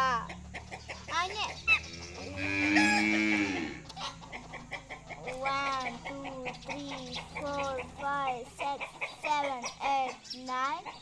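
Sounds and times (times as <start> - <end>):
farmyard animal calls: 0.0 - 11.0.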